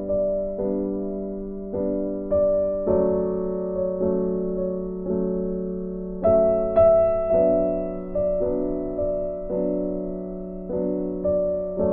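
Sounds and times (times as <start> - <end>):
slow gentle piano music: 0.0 - 11.9.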